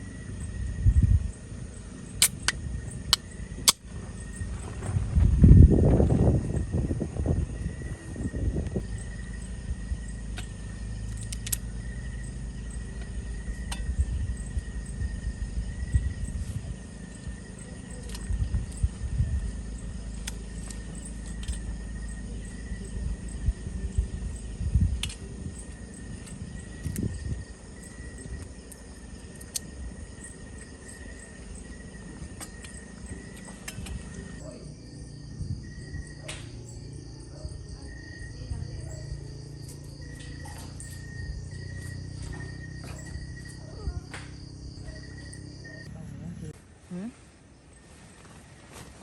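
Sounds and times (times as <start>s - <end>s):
low rumble: 0.0s - 46.6s
crickets chirping: 0.0s - 49.0s.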